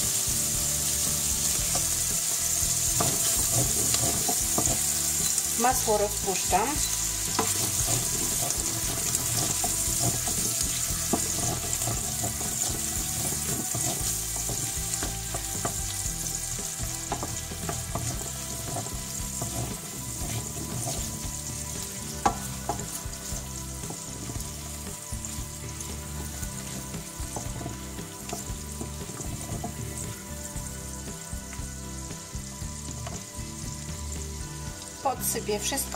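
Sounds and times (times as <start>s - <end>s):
onion and butter sizzling in pan: 0.0s - 35.9s
wooden spoon scraping pan: 0.9s - 30.1s.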